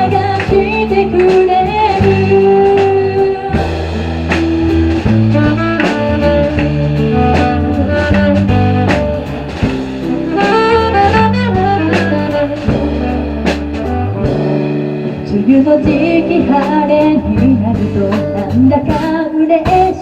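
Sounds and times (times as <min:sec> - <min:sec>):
melodic lead line: 0:00.0 - 0:18.6
bass and chords: 0:00.0 - 0:20.0
drum strikes: 0:00.0 - 0:20.0.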